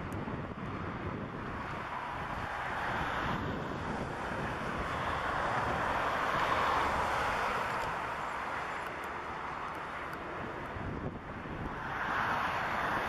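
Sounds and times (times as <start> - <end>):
jet engines at takeoff power: 0.0 - 13.0
wind buffeting microphone: 0.0 - 13.0.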